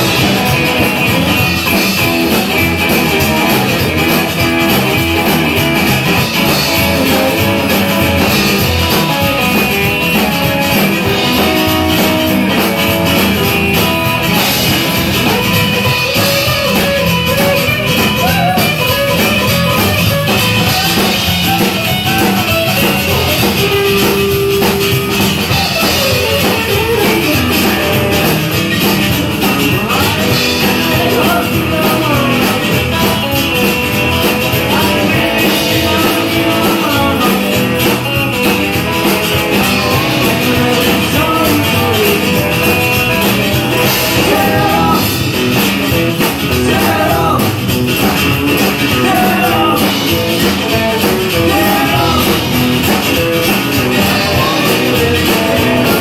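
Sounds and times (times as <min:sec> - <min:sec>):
rockabilly band playing: 0:00.0 - 0:56.0.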